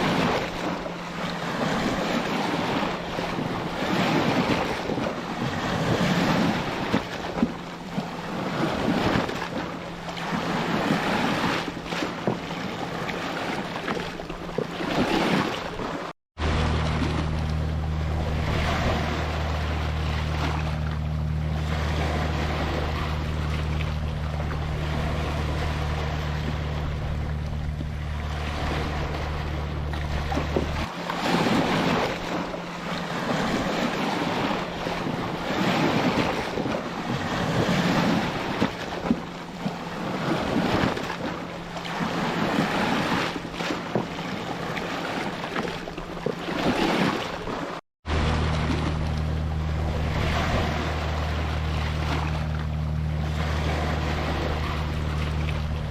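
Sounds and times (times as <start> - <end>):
steady low hum: 0.0 - 14.5, 16.4 - 44.7, 48.1 - 55.9
ocean surf washing ashore: 0.0 - 55.9.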